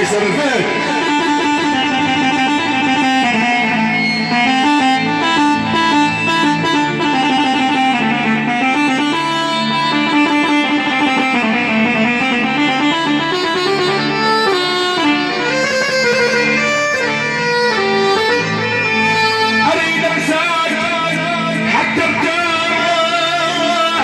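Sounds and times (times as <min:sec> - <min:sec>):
live band instrumental melody: 0:00.0 - 0:24.0.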